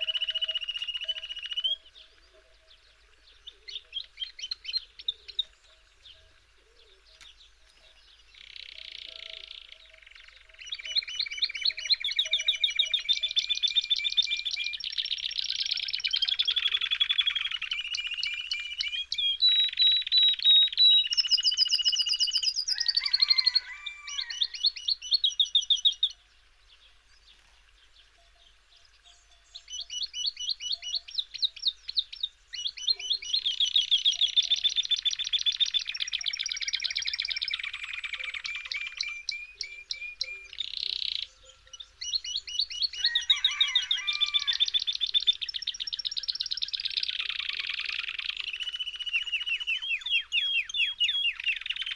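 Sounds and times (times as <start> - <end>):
songbird trilling: 0.0 - 51.9.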